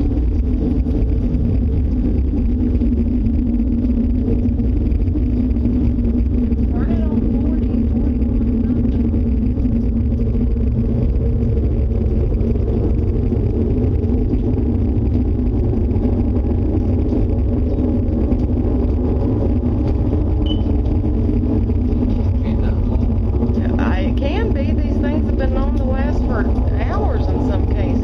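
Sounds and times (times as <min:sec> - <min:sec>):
loud low roar and drone: 0:00.0 - 0:28.0.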